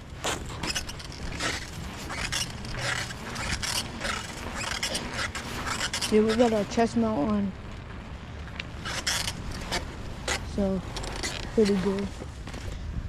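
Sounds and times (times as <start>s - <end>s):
clothing rubbing against camera: 0.0s - 12.8s.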